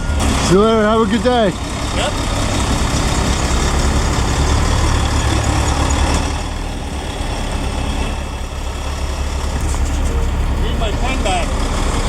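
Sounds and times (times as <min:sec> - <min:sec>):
heavy truck engine idling: 0:00.0 - 0:12.0.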